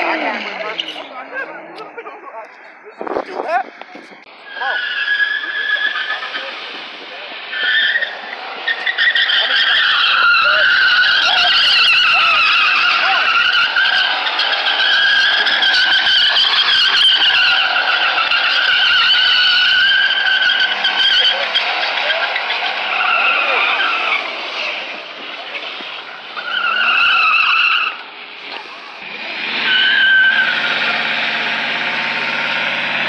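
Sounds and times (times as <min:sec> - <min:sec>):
tires squealing: 0:00.0 - 0:33.0.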